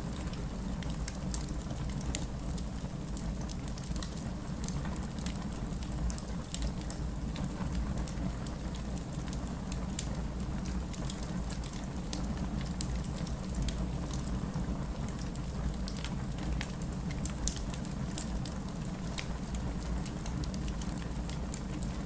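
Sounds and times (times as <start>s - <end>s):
fire crackles and pops: 0.0s - 22.0s.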